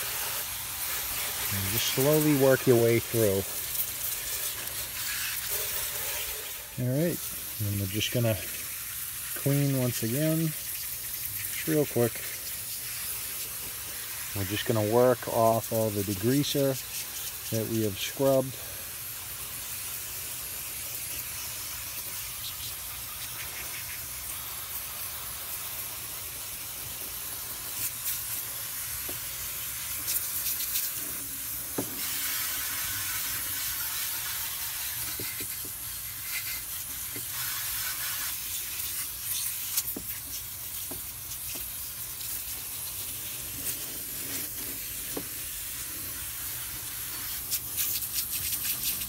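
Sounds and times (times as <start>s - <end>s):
water splashing on plastic: 0.0s - 17.7s, 19.0s - 49.0s
hose nozzle spraying water: 0.0s - 49.0s.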